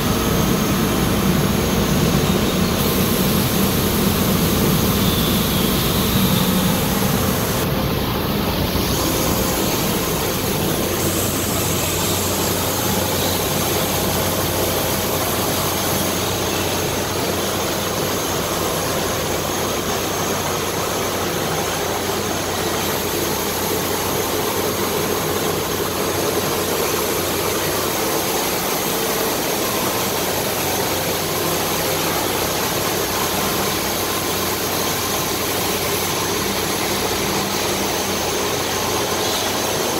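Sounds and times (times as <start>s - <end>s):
laser cutting machine running: 0.0s - 39.9s.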